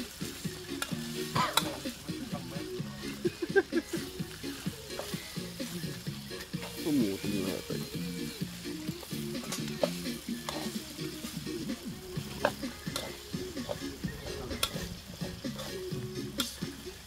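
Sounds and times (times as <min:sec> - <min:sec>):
background music: 0:00.0 - 0:17.0
rice sizzling in a pan: 0:00.0 - 0:17.0.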